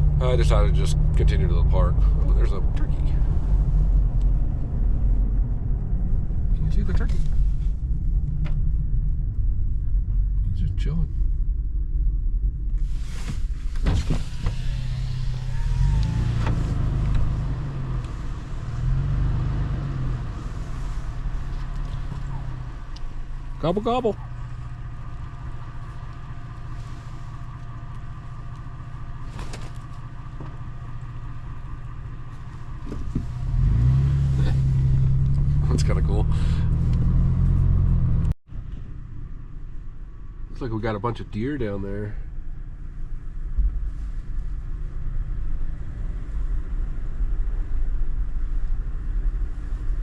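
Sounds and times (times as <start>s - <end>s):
car engine droning: 0.0s - 50.0s
road noise: 0.0s - 50.0s.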